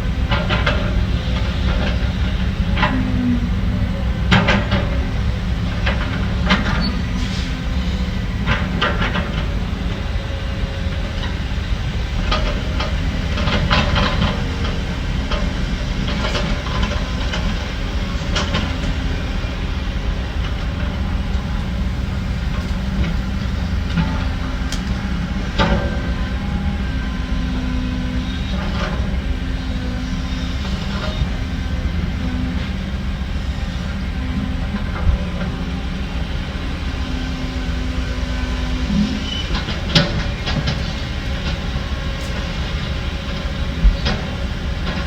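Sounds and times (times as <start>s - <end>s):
diesel machinery rumbling: 0.0s - 45.0s.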